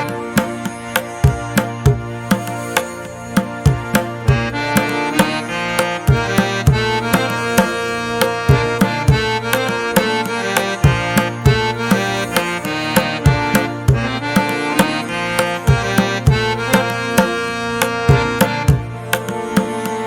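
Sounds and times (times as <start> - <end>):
sustained melodic notes: 0.0 - 20.0
quick hand-drum beat: 0.2 - 5.4, 6.1 - 15.0, 15.6 - 19.9.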